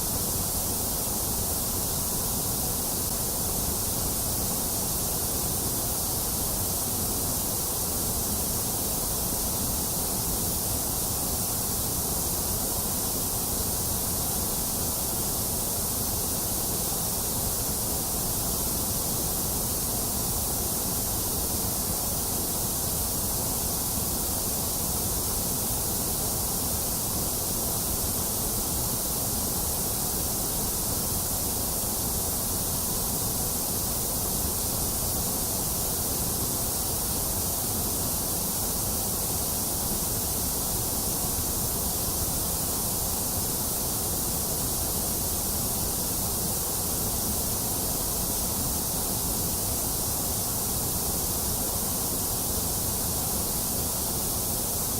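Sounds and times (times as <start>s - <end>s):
steady white noise hiss: 0.0s - 54.9s.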